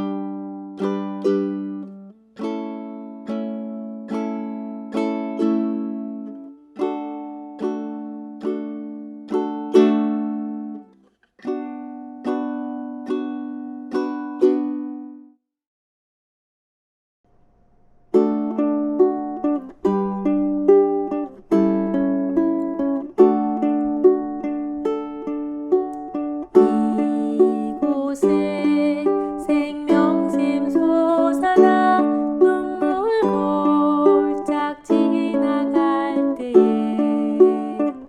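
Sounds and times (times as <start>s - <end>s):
fingerpicked ukulele: 0.0s - 15.4s, 17.7s - 38.0s.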